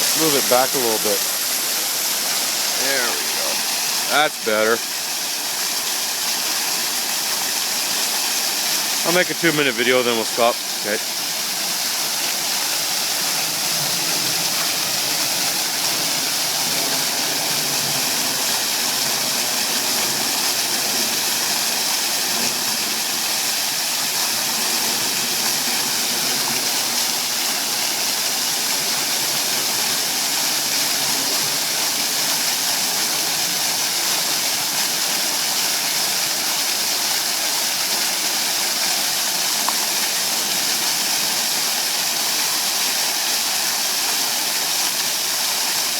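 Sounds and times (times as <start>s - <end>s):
water fountain splashing: 0.0s - 45.9s.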